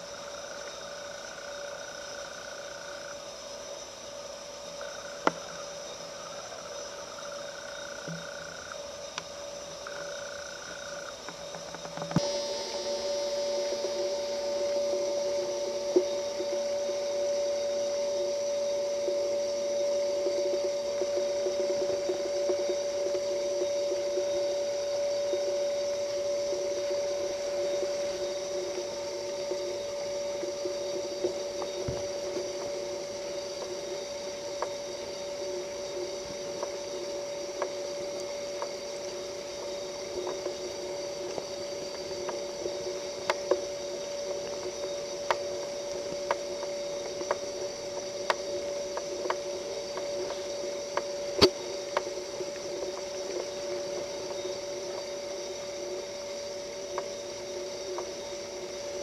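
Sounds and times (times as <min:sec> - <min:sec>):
faint hiss: 0:00.0 - 0:59.0
steady hum: 0:00.0 - 0:59.0.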